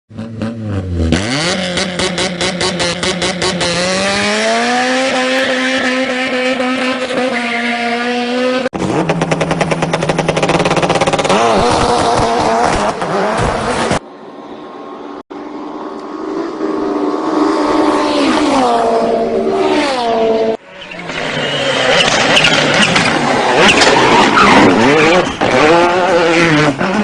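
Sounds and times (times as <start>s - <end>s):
race engine revving: 0.2s - 14.0s, 15.4s - 27.0s.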